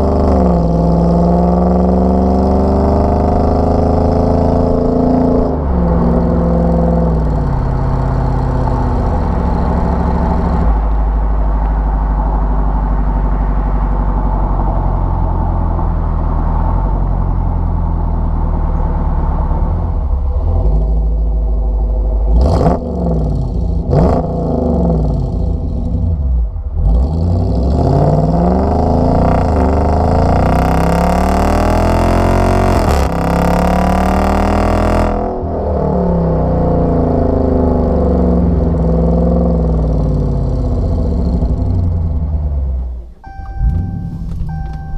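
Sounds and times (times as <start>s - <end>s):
engine exhaust deep rumble: 0.0s - 44.9s.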